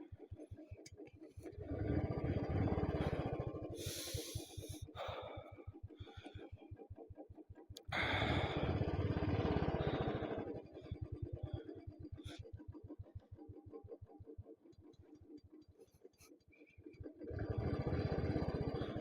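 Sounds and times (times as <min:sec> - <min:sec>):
motorcycle engine idling: 0:00.7 - 0:06.4, 0:07.9 - 0:19.0.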